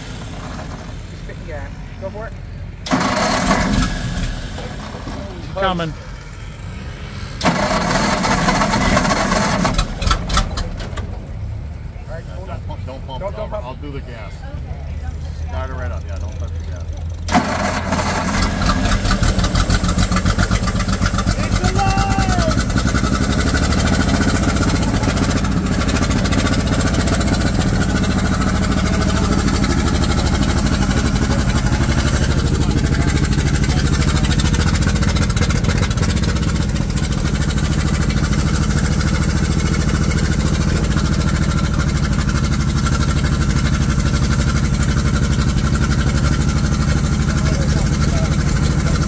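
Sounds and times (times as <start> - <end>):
race car engine idling: 0.0 - 49.0.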